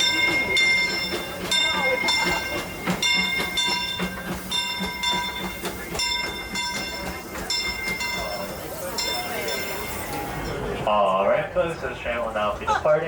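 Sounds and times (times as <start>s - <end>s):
locomotive bell ringing: 0.0s - 10.7s
low rumble of standing train: 0.0s - 13.0s.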